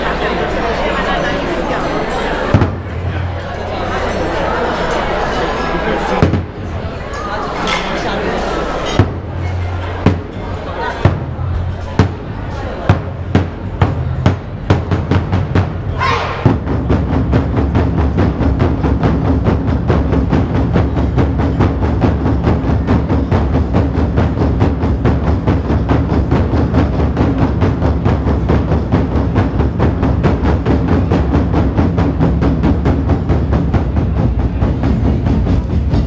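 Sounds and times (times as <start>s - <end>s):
barrel drums beaten fast: 2.5s - 4.2s, 6.2s - 7.0s, 8.9s - 36.0s.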